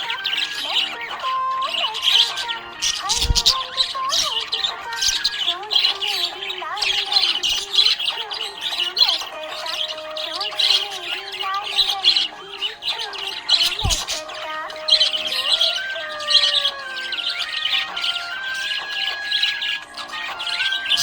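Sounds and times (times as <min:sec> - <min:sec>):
background music: 0:00.0 - 0:21.0
budgerigars chirping and chattering: 0:00.0 - 0:21.0.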